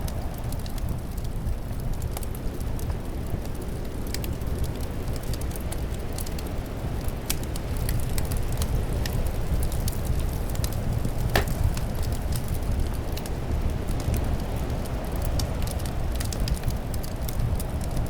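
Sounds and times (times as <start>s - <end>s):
low rumble of wind: 0.0s - 18.0s
wood fire crackling and popping: 0.0s - 18.0s.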